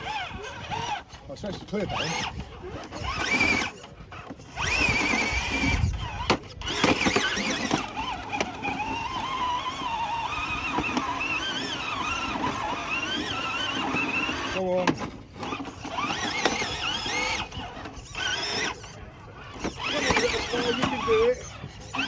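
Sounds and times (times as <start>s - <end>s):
toy car electric motor whining: 0.0s - 22.0s.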